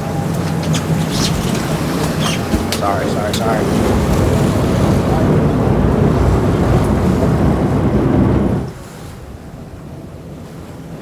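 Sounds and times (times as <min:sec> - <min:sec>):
boat engine rumble: 0:00.0 - 0:11.0
boat wake washing: 0:00.0 - 0:11.0
wind buffeting microphone: 0:00.0 - 0:11.0.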